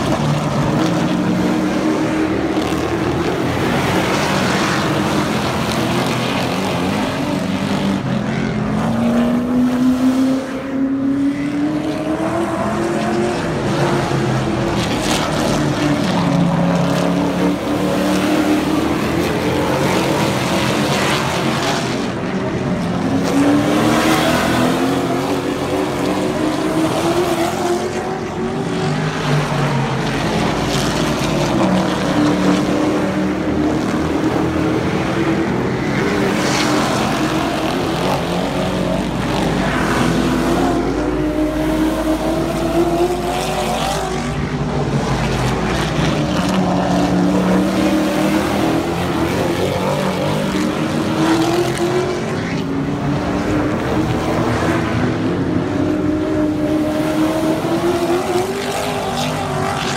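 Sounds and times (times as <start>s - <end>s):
race truck engines accelerating: 0.0s - 59.9s.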